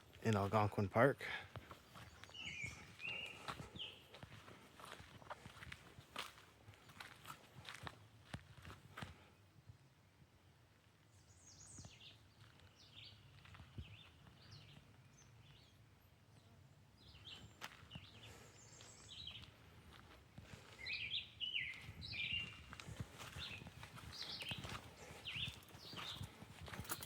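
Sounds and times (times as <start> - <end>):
small birds chirping: 0.0 - 7.8, 11.0 - 27.0
faint outdoor ambience: 0.0 - 27.0.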